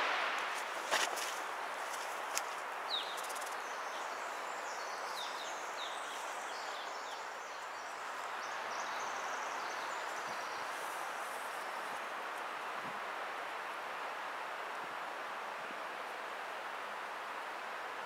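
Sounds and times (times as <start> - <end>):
woodland background hiss: 0.0 - 18.0.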